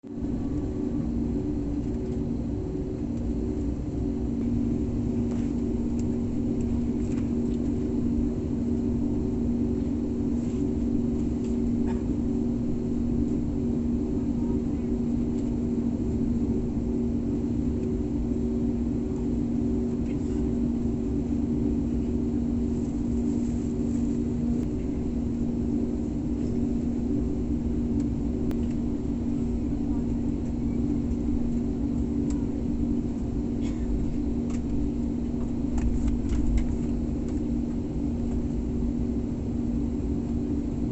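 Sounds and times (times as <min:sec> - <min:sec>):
jet cabin drone: 0:00.0 - 0:40.9.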